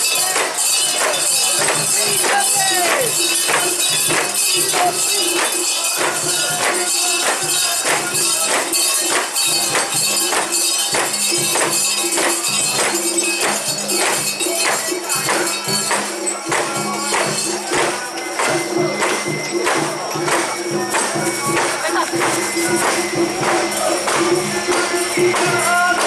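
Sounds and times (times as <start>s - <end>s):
festival music: 0.0s - 26.0s
jangling metal percussion: 0.0s - 26.0s.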